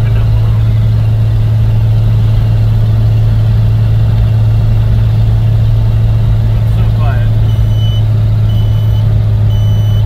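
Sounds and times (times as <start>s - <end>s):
car engine and exhaust droning: 0.0s - 10.0s.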